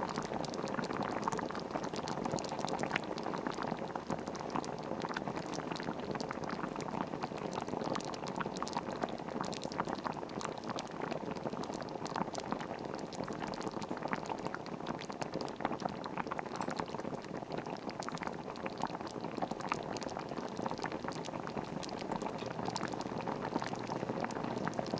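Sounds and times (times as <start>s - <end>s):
soup boiling and bubbling: 0.0s - 24.9s.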